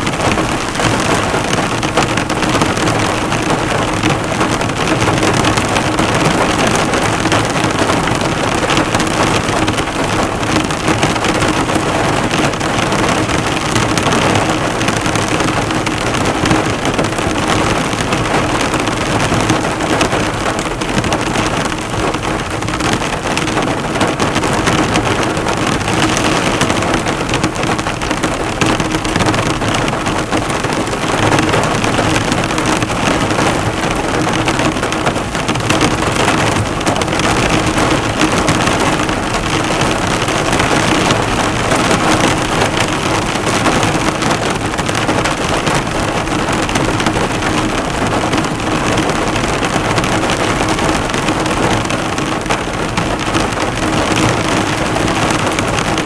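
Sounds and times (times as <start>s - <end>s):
heavy rain on a car: 0.0s - 56.0s.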